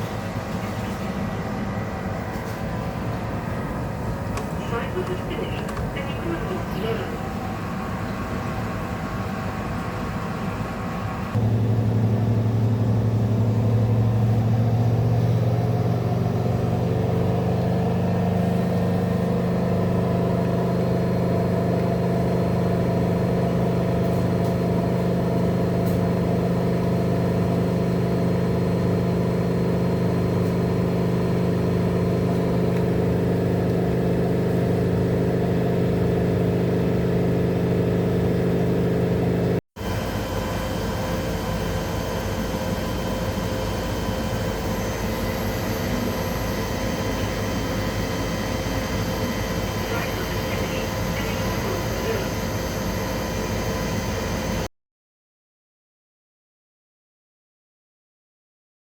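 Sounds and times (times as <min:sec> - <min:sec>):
washing machine motor hum: 0:00.0 - 0:54.7.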